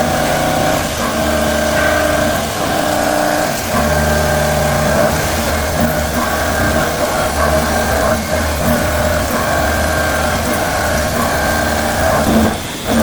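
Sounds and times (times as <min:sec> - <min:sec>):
milling machine cutting tone: 0:00.0 - 0:13.0.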